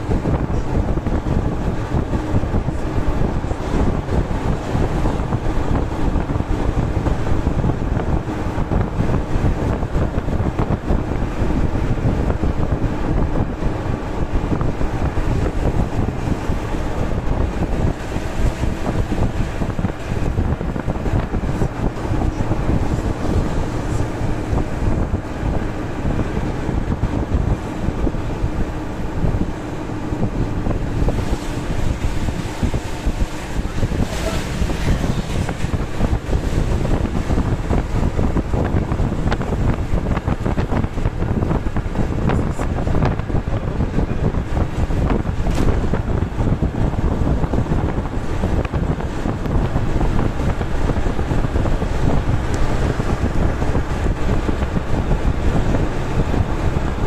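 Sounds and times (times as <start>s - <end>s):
road and wind noise in vehicle: 0.0s - 57.0s
wind buffeting microphone: 0.0s - 57.0s.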